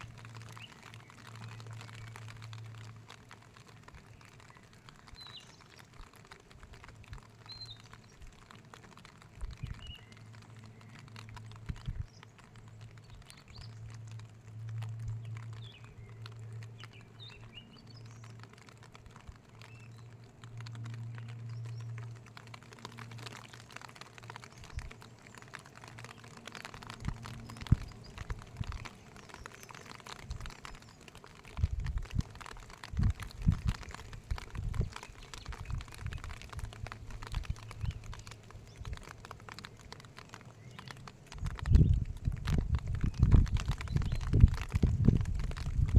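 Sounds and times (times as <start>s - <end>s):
light pattering of drops: 0.0s - 45.9s
low steady hum: 0.0s - 45.9s.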